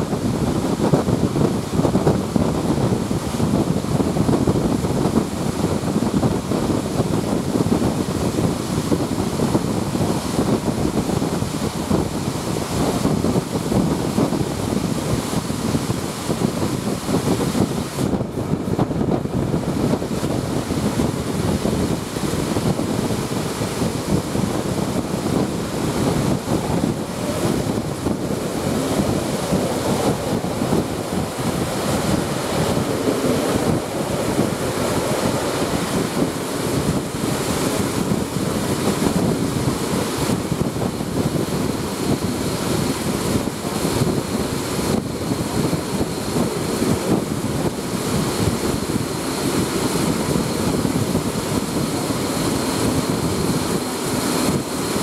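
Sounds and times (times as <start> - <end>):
train running noise: 0.0 - 55.0
wind buffeting a microphone: 0.0 - 55.0.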